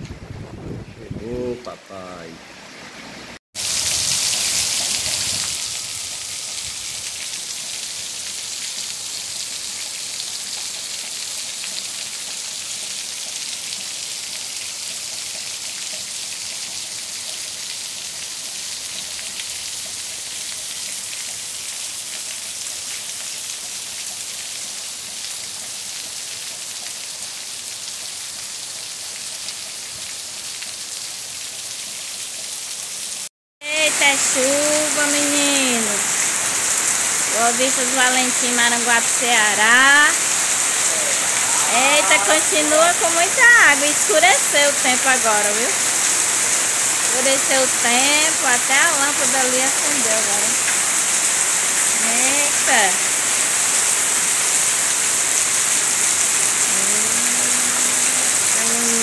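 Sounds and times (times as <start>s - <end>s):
heavy rain on wet ground: 0.0s - 59.0s.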